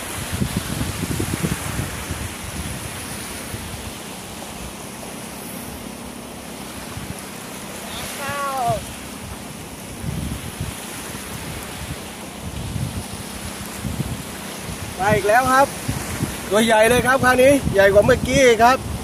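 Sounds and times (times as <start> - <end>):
small waves washing on beach: 0.0 - 19.0
wind rumbling on microphone: 0.0 - 19.0.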